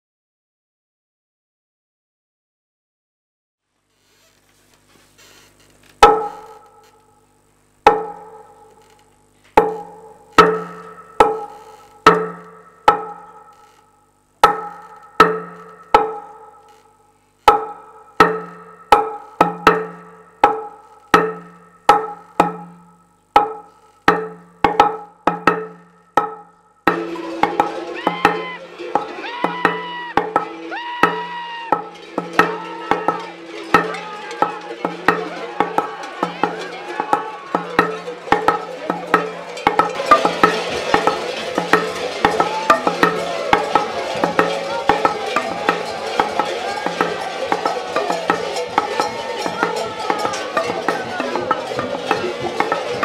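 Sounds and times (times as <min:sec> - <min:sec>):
wooden percussion hits: 0:05.2 - 0:53.0.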